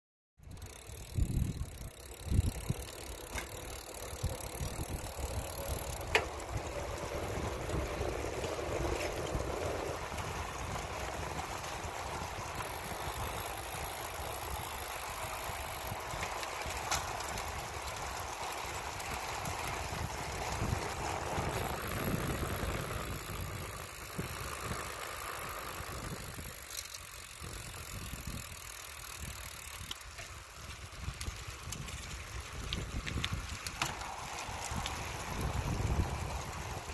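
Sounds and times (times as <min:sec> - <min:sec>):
bicycle tyre and wheel noise: 0:00.4 - 0:36.9
wind buffeting microphone: 0:00.5 - 0:26.7, 0:27.3 - 0:29.9, 0:30.6 - 0:36.9.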